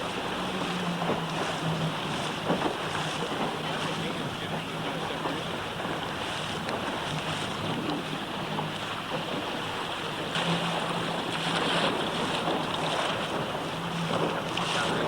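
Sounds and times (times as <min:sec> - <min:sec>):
water rushing past boat: 0:00.0 - 0:15.0
wind buffeting microphone: 0:00.0 - 0:15.0.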